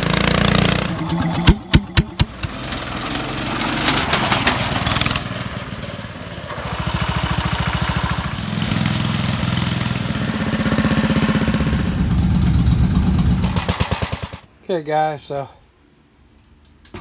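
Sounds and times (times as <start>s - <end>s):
small gasoline engines running: 0.0s - 14.5s.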